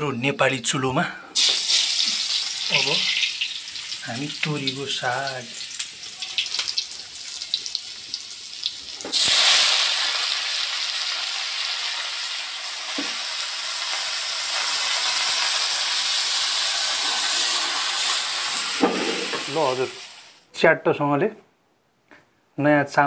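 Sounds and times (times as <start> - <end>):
greens sizzling in hot oil: 1.4 - 20.4.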